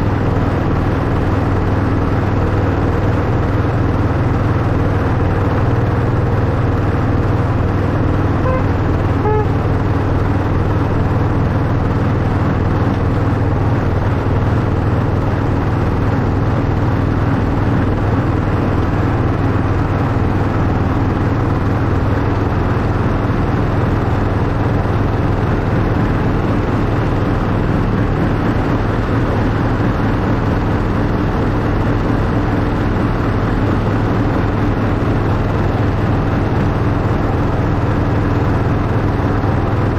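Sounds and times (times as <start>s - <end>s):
miniature locomotive drone and rumble: 0.0s - 39.9s.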